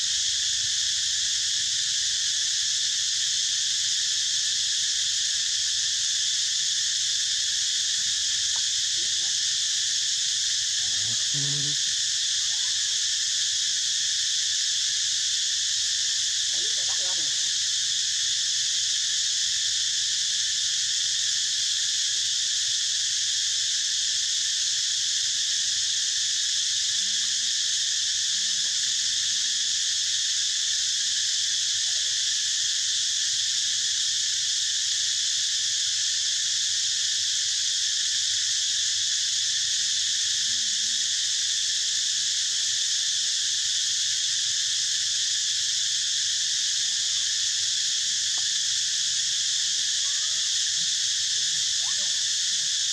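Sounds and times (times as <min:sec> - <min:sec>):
high-pitched insect drone: 0:00.0 - 0:52.9.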